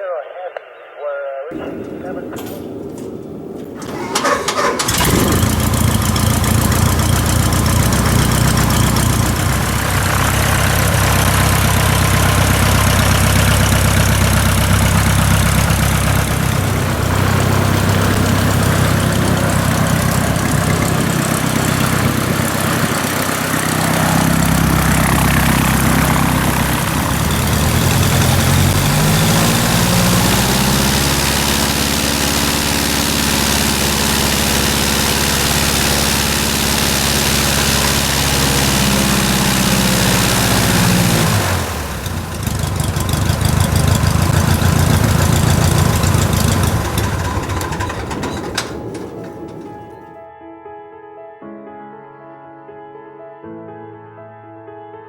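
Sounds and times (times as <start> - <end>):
light aircraft engine running: 1.6 - 50.1.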